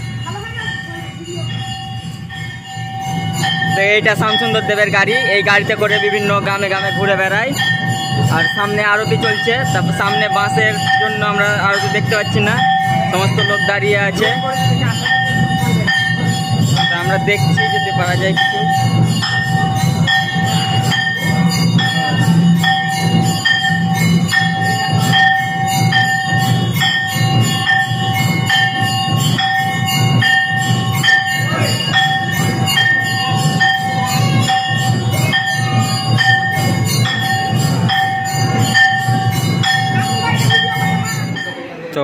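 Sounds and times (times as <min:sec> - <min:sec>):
struck percussion beat: 0:00.0 - 0:41.7
bells ringing: 0:00.0 - 0:42.0.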